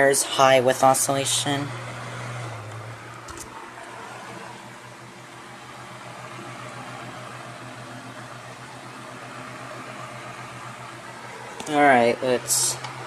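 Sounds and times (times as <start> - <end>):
table fan running: 0.0 - 13.0.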